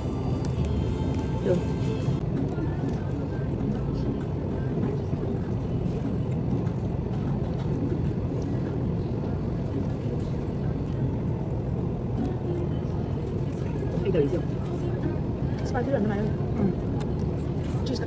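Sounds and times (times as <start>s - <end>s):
steady low rumble: 0.0s - 18.0s
faint background voices: 1.2s - 18.0s.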